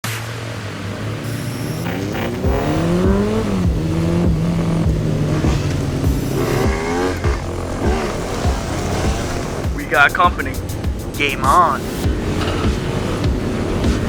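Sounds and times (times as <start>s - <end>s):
motorcycle engines revving: 0.0s - 14.0s
steady low beat: 1.8s - 14.0s.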